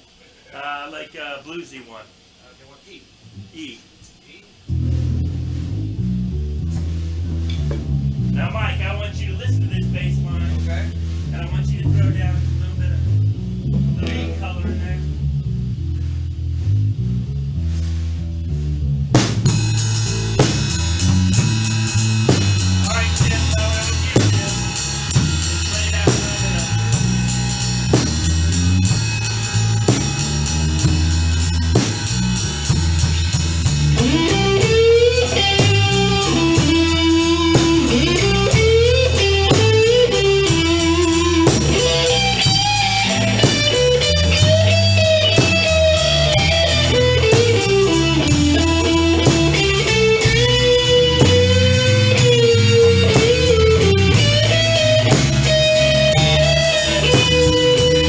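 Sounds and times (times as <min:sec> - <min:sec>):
lead guitar bent notes: 0:04.6 - 0:16.0, 0:19.1 - 0:58.0
drum kit beat: 0:04.6 - 0:58.0
electric bass riff: 0:04.6 - 0:58.0.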